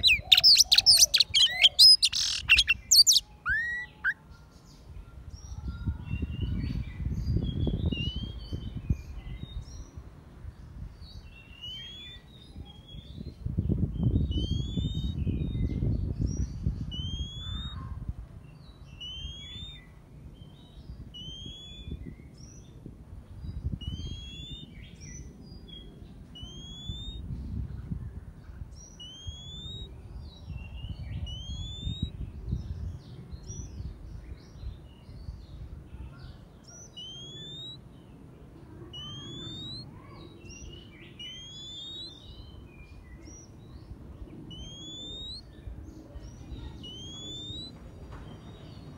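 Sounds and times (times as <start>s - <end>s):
bird singing whistled notes: 0.0s - 4.2s, 5.4s - 9.9s, 11.0s - 17.8s, 18.6s - 22.8s, 23.6s - 25.8s, 26.4s - 27.2s, 28.8s - 35.6s, 36.6s - 37.9s, 38.9s - 48.9s.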